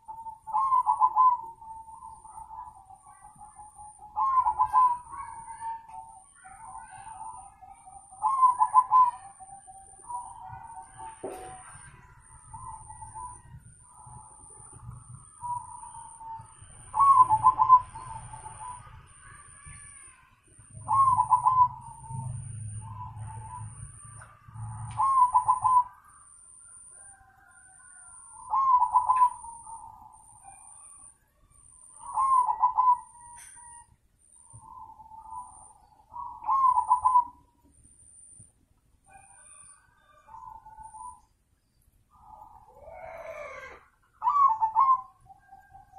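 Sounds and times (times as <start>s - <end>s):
dove cooing: 0.0s - 37.6s, 39.1s - 41.3s, 42.1s - 45.9s.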